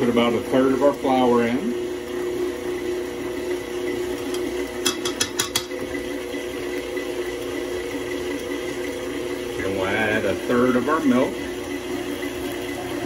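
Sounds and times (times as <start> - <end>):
stand mixer motor humming: 0.0 - 13.0.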